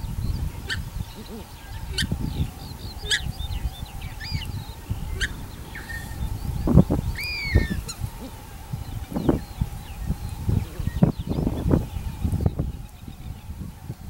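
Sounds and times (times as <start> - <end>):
bird chirps: 0.0 - 13.9
loud low bird call: 0.0 - 13.9
rising and falling bird calls: 0.0 - 14.0.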